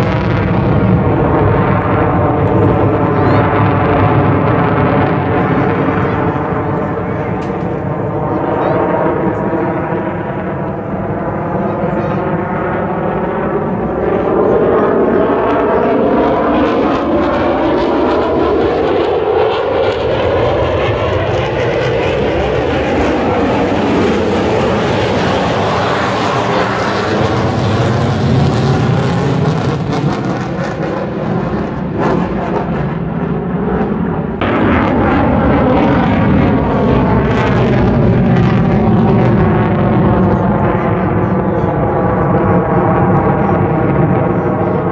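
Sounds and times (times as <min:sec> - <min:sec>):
jet engine roar overhead: 0:00.0 - 0:44.9.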